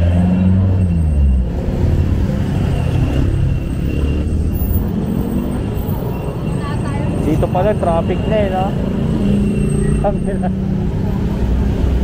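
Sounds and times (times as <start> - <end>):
low road noise: 0.0 - 12.0.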